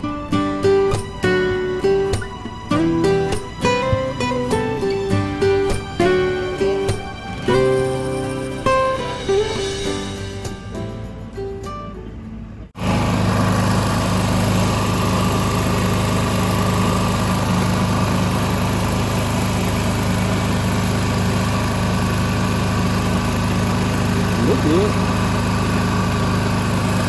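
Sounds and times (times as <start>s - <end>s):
small engine running: 0.0s - 10.6s, 12.8s - 27.0s
acoustic guitar music: 0.0s - 27.0s.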